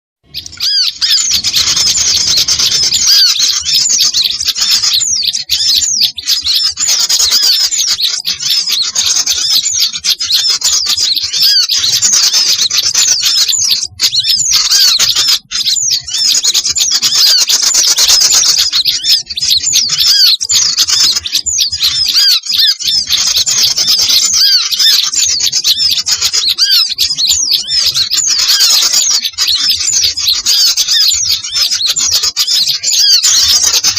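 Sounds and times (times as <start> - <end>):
many small songbirds chirping: 0.2 - 33.9.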